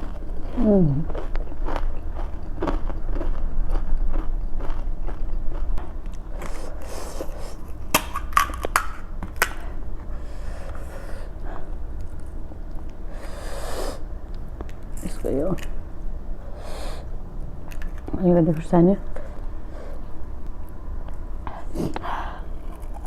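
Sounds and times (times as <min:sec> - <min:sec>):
close chewing and crunching: 0:00.0 - 0:13.4, 0:16.4 - 0:23.0.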